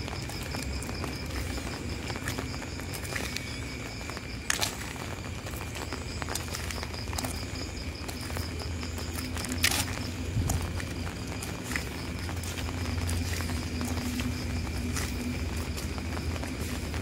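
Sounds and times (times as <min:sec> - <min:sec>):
footsteps: 0:00.0 - 0:17.0
steady rain falling: 0:00.0 - 0:17.0
water drips: 0:00.0 - 0:17.0.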